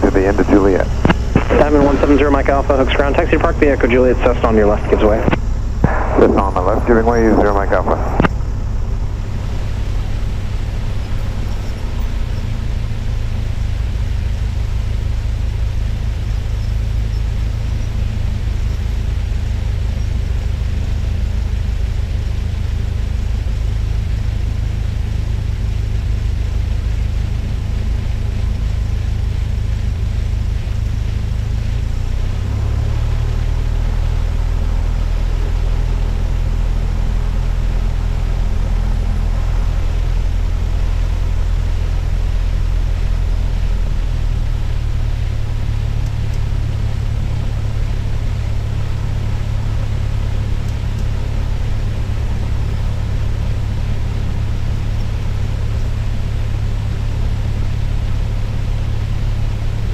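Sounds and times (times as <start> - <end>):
aircraft piston engine running: 0.0 - 59.9.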